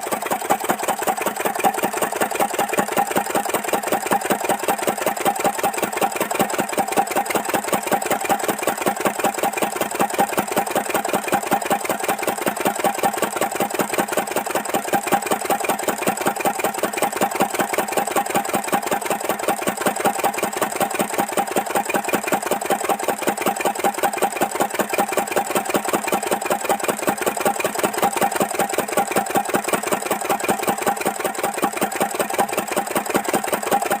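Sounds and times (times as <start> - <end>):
diesel engine running slowly: 0.0 - 34.0.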